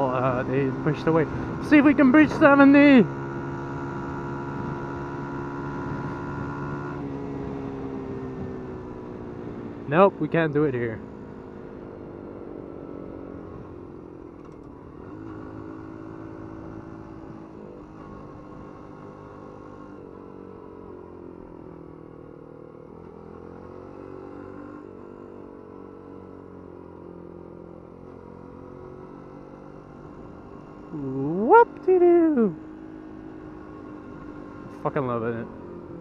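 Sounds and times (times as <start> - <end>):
small motorcycle engine running: 0.0 - 36.0.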